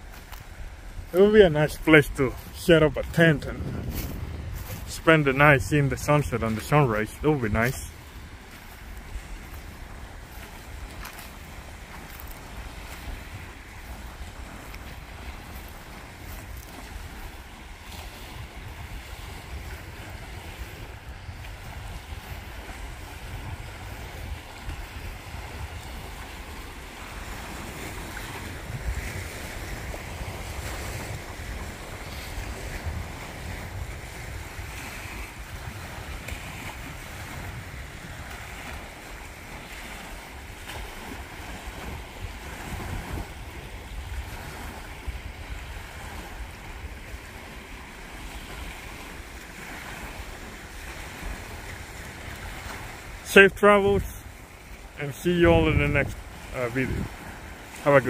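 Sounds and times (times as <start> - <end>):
wind buffeting microphone: 0.0 - 53.2, 53.8 - 58.0
waves lapping at shore: 0.0 - 58.0.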